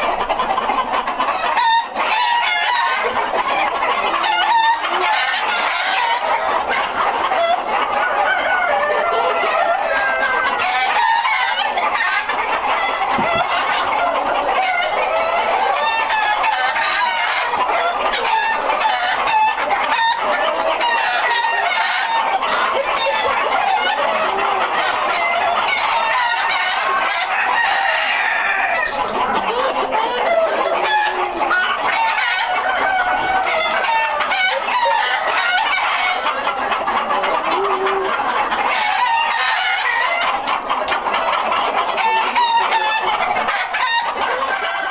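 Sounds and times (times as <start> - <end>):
chickens clucking and calling: 0.0 - 44.9
roosters crowing: 0.0 - 44.9.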